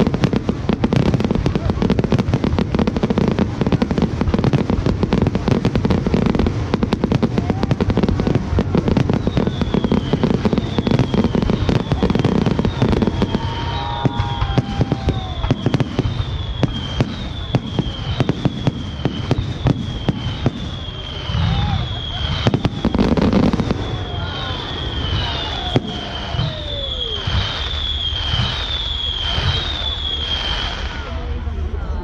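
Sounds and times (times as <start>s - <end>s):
fireworks crackling and banging: 0.0s - 32.0s.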